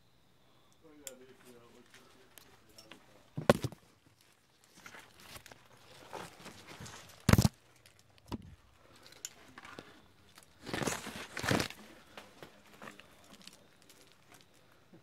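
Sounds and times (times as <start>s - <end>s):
leaves and brush rustling: 1.3s - 14.8s.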